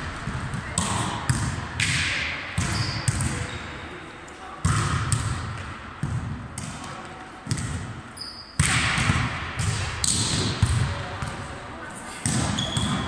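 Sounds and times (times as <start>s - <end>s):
volleyball hits echoing: 0.0s - 3.9s, 4.5s - 8.0s, 8.6s - 11.6s, 12.2s - 13.0s.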